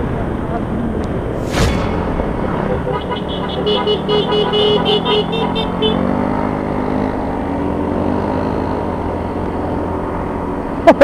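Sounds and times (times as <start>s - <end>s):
road noise: 0.0s - 11.0s
motorcycle engine: 1.2s - 10.5s.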